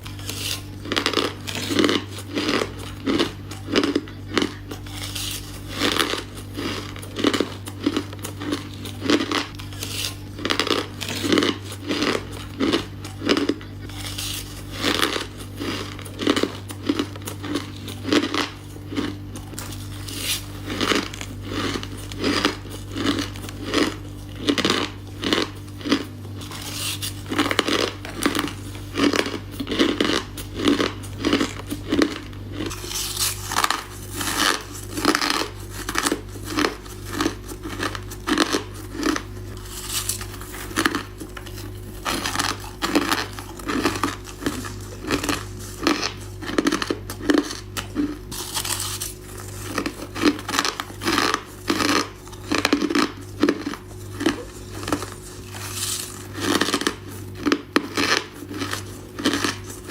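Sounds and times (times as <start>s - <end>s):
person crunching ice cubes: 0.0s - 59.9s.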